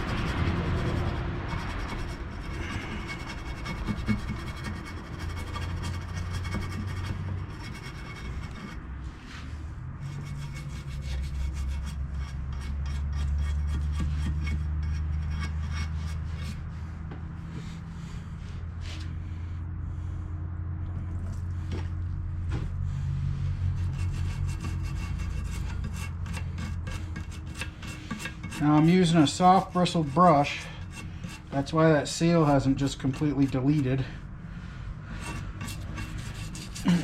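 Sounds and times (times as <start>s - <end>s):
hand scrubbing grime: 0.0s - 16.9s, 23.2s - 34.2s, 35.1s - 37.0s
steady low hum: 0.0s - 37.0s.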